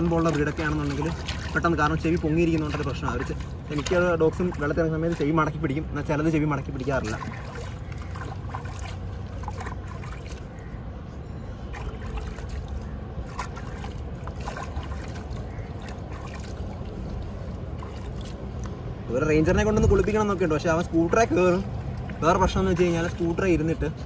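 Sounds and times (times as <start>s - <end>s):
steady low rumble: 0.0s - 24.0s
water splashing and trickling: 0.0s - 24.0s.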